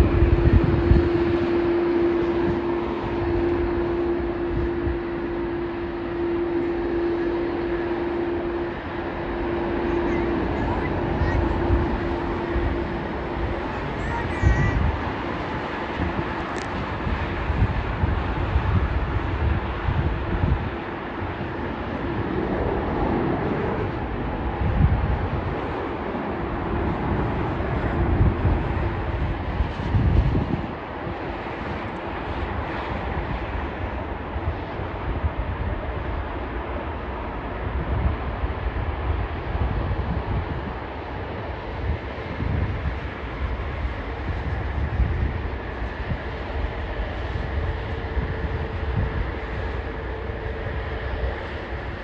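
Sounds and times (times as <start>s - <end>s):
jet engines rumbling: 0.0s - 52.0s
wind buffeting microphone: 0.0s - 52.0s.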